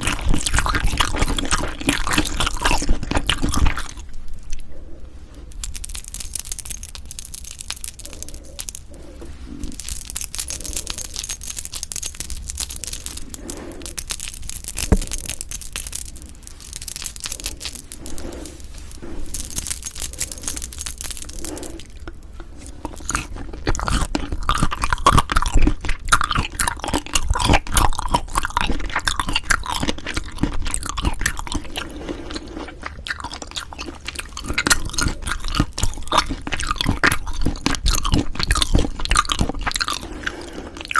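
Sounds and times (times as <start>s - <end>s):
close chewing and crunching food: 0.0s - 40.9s.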